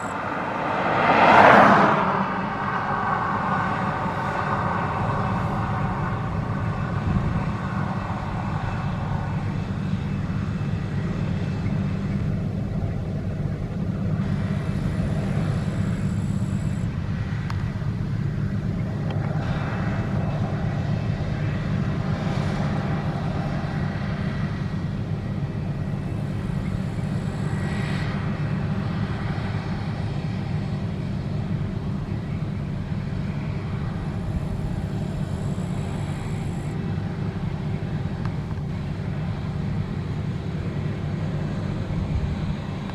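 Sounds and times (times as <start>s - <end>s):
combine harvester droning: 0.0s - 42.9s.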